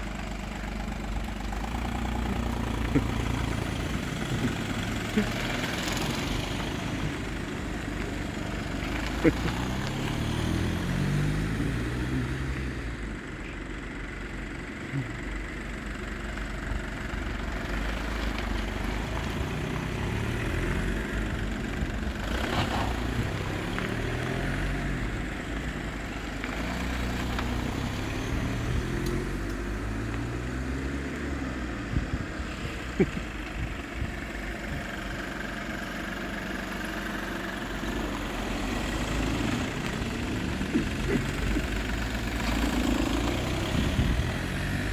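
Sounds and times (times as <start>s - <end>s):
car engines pulling away: 0.0s - 44.9s.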